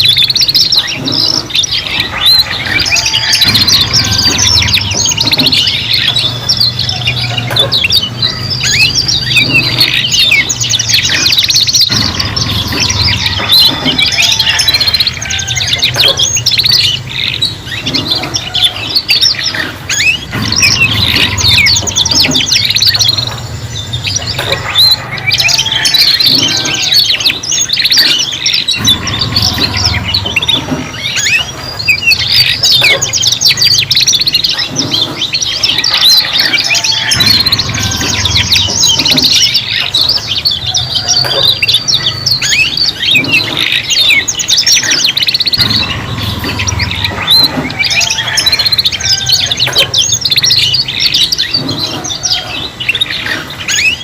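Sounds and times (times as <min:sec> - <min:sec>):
canaries singing: 0:00.0 - 0:54.0.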